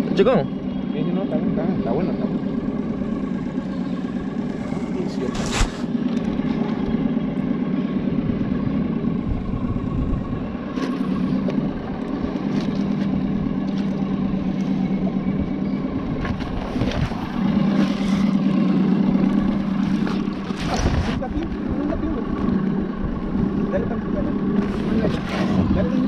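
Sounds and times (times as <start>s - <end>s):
outboard motor humming: 0.0s - 26.0s.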